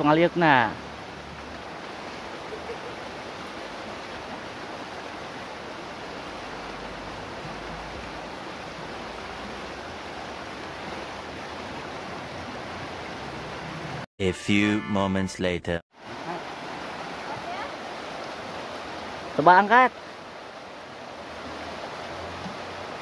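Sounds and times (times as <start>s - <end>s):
river rushing over rocks: 0.0s - 14.0s, 16.0s - 23.0s.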